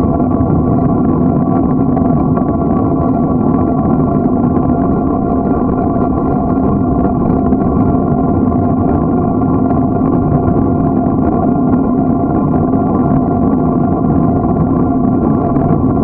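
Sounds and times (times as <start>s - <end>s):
bicycle tyre rumble: 0.0s - 16.0s
constant hum: 0.0s - 16.0s
wind buffeting microphone: 0.0s - 16.0s.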